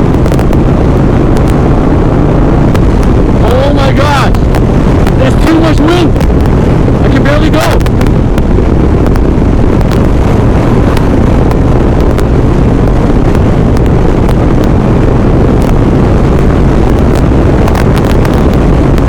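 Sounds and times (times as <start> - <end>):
gusting wind on microphone: 0.0 - 19.0
motorcycle engine drone: 0.0 - 19.0.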